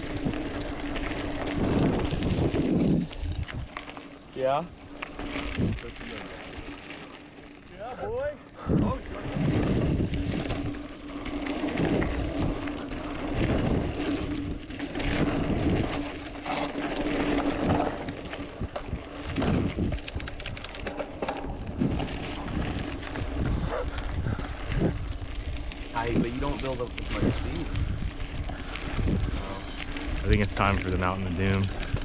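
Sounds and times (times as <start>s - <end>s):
wind noise: 0.0s - 7.0s, 7.9s - 32.0s
bike rattles: 0.0s - 32.0s
bike tyres rumbling on dirt: 0.0s - 32.0s.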